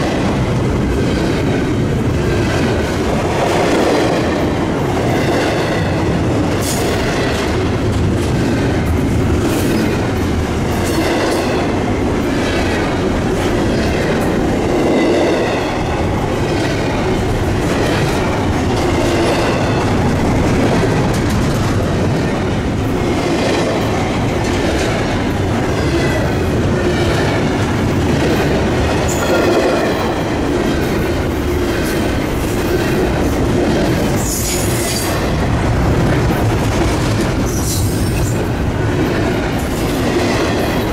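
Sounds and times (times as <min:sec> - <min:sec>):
train rumble: 0:00.0 - 0:40.9.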